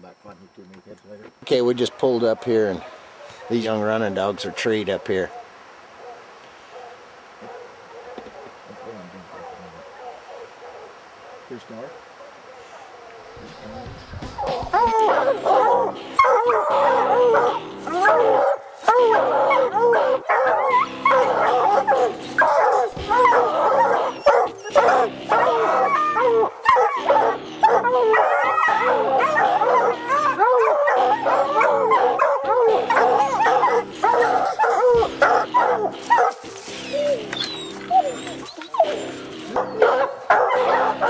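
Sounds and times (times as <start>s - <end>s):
hounds barking: 1.5s - 41.0s.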